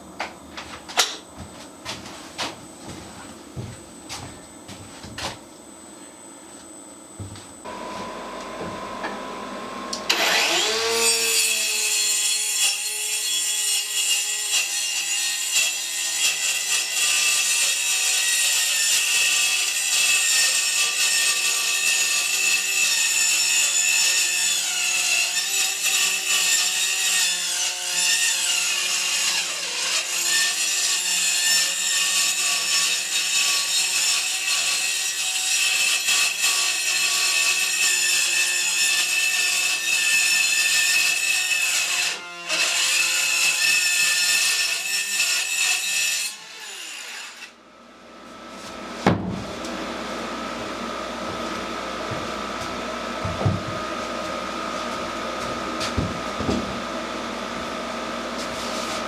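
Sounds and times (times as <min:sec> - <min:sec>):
electric saw cutting wood: 0:07.7 - 0:47.6, 0:48.6 - 0:59.0.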